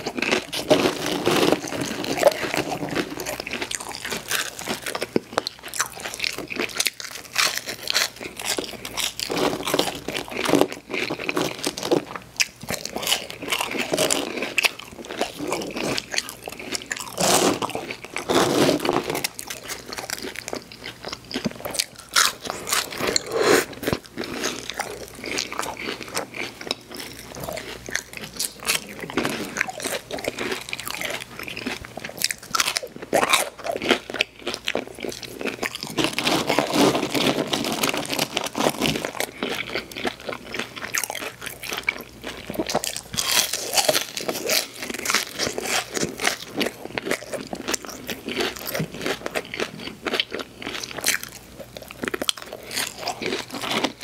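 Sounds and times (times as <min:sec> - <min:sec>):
person chewing crispy fried food: 0:00.0 - 0:54.0.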